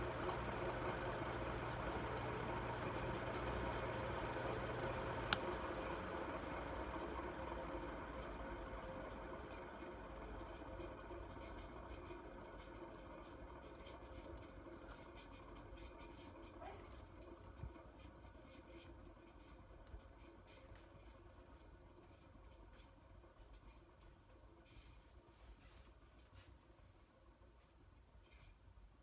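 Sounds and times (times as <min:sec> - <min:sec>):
ceiling fan motor hum: 0:00.0 - 0:29.0.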